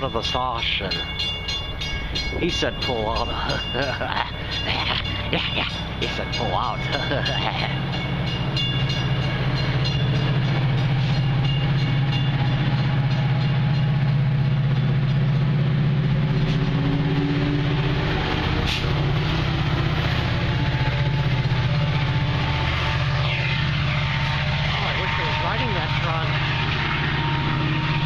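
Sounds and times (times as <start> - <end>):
diesel locomotive drone: 0.0 - 28.0.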